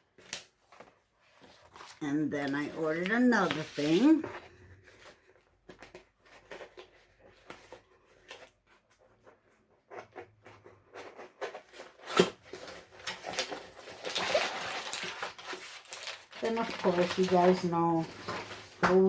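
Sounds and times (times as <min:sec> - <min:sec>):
packaging rustling: 0:00.0 - 0:19.0.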